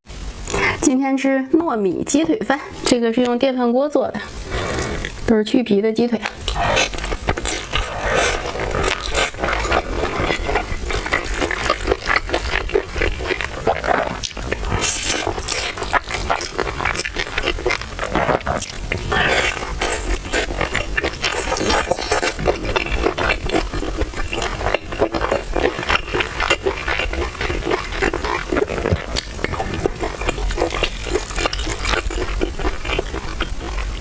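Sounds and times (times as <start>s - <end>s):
wet chewing clicks and smacks: 6.2s - 34.0s.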